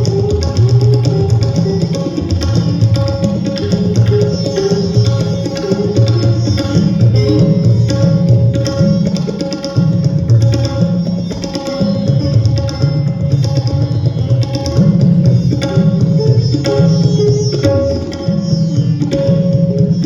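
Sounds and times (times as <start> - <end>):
plucked string instrument: 0.0 - 20.0
tabla playing: 0.0 - 20.0.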